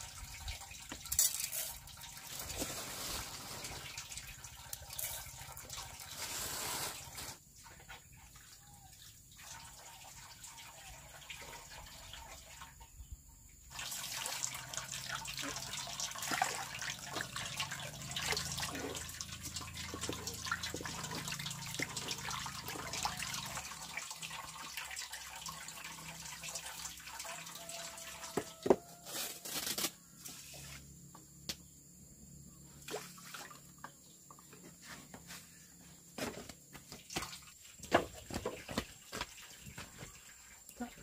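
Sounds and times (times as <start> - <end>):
water splashing and dripping: 0.0 - 12.8, 13.7 - 29.0, 32.8 - 34.5, 36.2 - 41.0.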